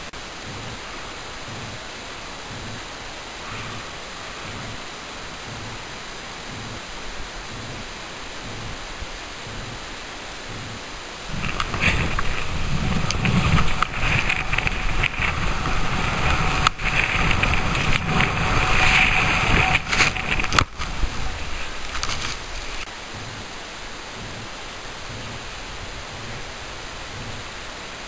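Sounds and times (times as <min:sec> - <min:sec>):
skis hissing through snow: 0:00.0 - 0:28.0
wind buffeting microphone: 0:00.0 - 0:28.0.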